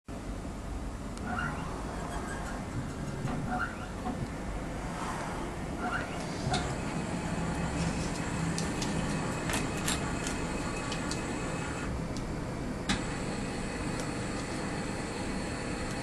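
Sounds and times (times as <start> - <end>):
three d printer whirring: 1.1 - 5.0, 5.7 - 16.0.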